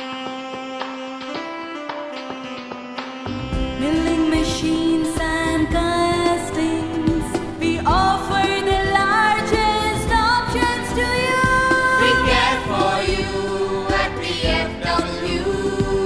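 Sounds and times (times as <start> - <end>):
song with instrumental backing: 0.0 - 16.0.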